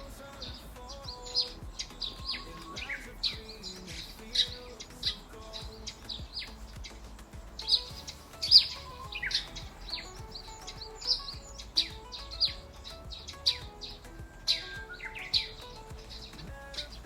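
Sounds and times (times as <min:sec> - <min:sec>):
birds chirping: 0:00.0 - 0:17.0
soft background music: 0:00.0 - 0:17.0.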